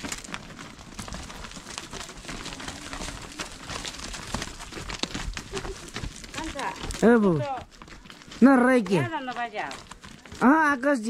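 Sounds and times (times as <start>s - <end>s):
cattle hooves on stony dirt: 0.0s - 11.0s.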